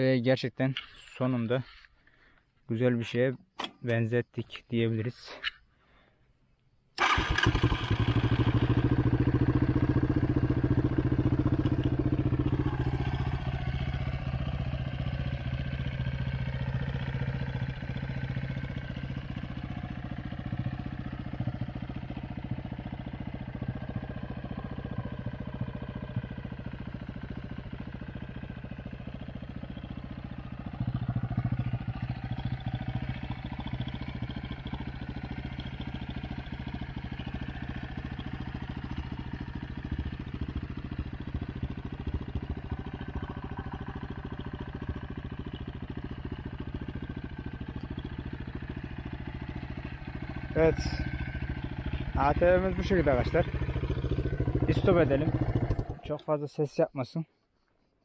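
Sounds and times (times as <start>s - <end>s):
atv engine idling: 7.0s - 56.6s.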